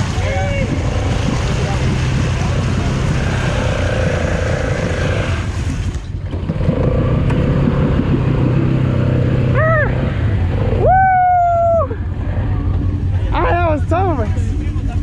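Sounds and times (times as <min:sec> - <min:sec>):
atv engine running under load: 0:00.0 - 0:15.0.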